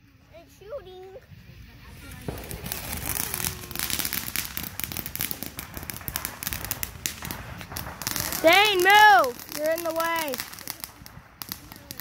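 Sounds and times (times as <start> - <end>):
firework crackling pops: 0.0 - 12.0.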